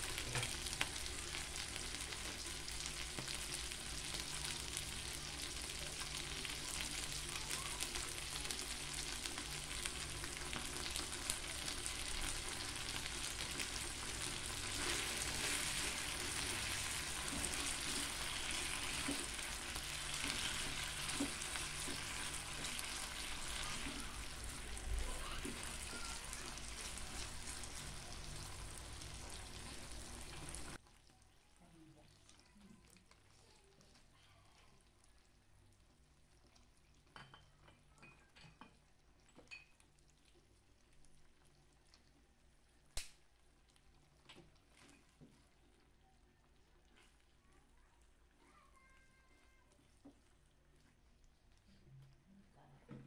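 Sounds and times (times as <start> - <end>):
spatula stirring in a pan: 0.0 - 31.1, 38.4 - 48.4, 49.4 - 51.8
food sizzling in a pan: 0.0 - 52.2.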